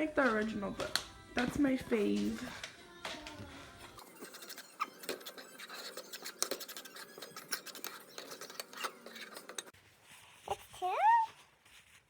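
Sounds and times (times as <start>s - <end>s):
objects being handled: 0.0s - 12.0s.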